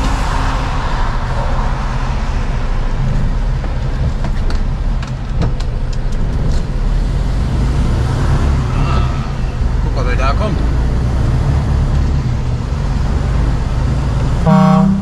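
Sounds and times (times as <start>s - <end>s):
truck engine and road hum: 0.0s - 15.0s.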